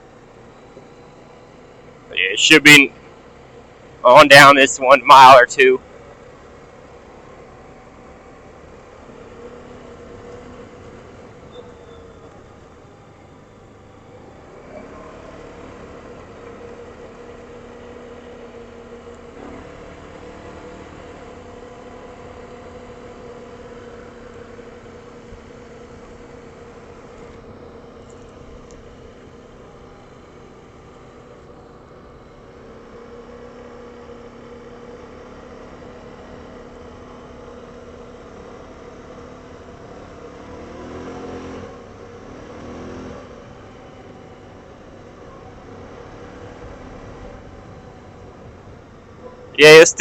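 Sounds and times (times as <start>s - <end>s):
atv engine running steadily: 0.0s - 50.0s.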